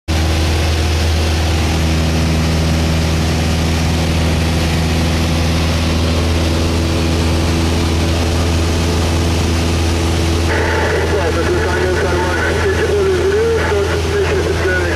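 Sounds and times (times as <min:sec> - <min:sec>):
propeller aircraft engine drone: 0:00.1 - 0:14.9.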